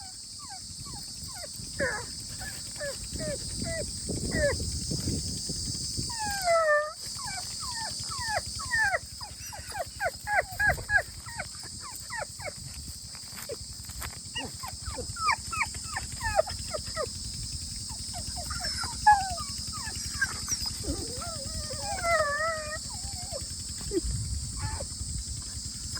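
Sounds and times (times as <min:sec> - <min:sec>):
puppy whining and yelping: 0:00.0 - 0:05.1, 0:06.0 - 0:13.6, 0:14.3 - 0:17.1, 0:17.8 - 0:25.0
crickets trilling: 0:00.0 - 0:25.9.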